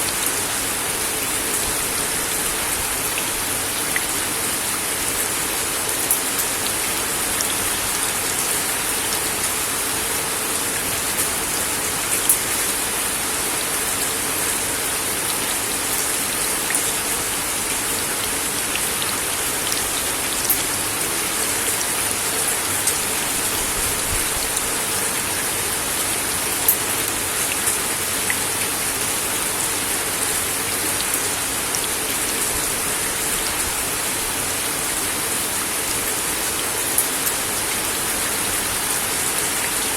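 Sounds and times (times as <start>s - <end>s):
rain falling on wooden deck: 0.0s - 39.9s.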